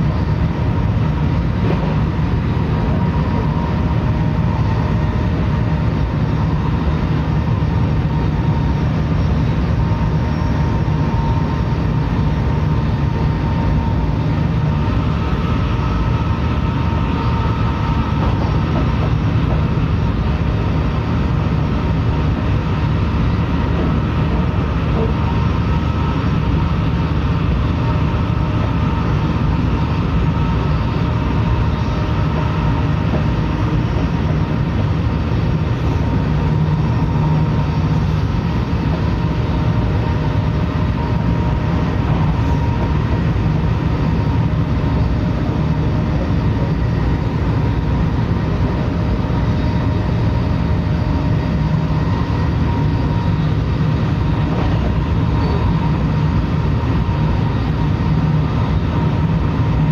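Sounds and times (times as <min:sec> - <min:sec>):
faint steady whine: 0:00.0 - 0:59.9
train wheels rumbling: 0:00.0 - 0:59.9.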